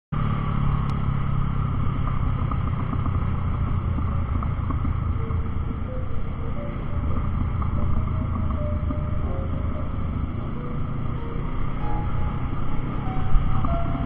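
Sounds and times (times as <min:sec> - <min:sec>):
motorcycle engine running: 0:00.2 - 0:14.0
wind rumble on microphone: 0:00.2 - 0:14.0.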